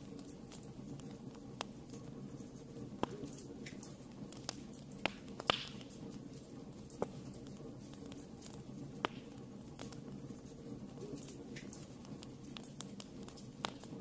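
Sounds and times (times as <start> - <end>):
fire crackles and pops: 0.0 - 14.0
fire low rumble: 0.0 - 14.0.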